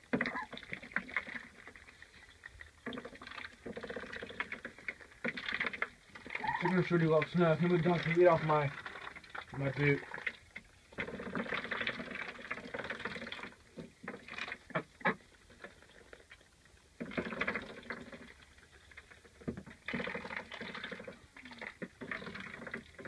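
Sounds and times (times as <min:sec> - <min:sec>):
duck bills dabbling in water: 0:00.0 - 0:23.0.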